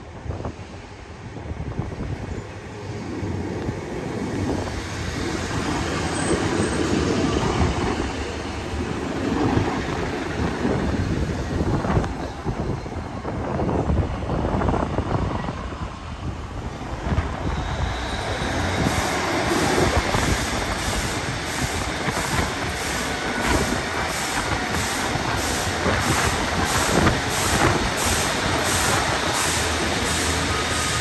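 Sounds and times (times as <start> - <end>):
diesel train running past: 0.0 - 31.0.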